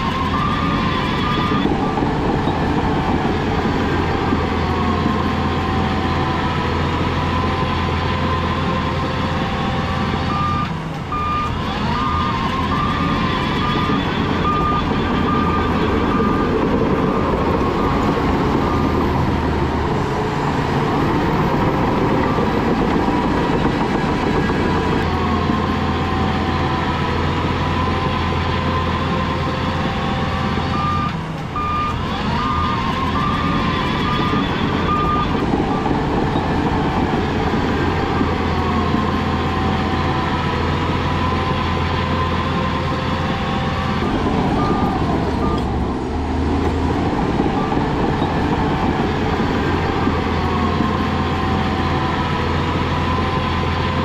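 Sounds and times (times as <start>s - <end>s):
reversing alarm beeping: 0.0s - 19.8s, 20.8s - 54.0s
heavy diesel machinery running: 0.0s - 54.0s.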